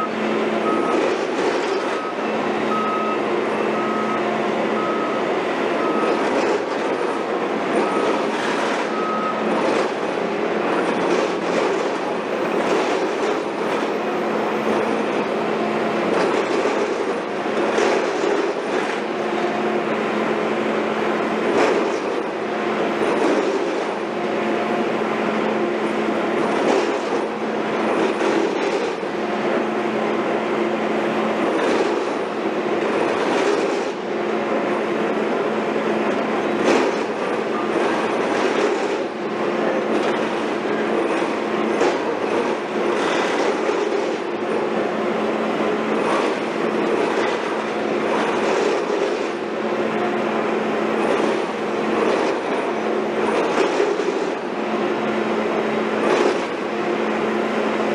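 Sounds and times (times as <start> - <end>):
machinery engine drone: 0.0 - 57.9.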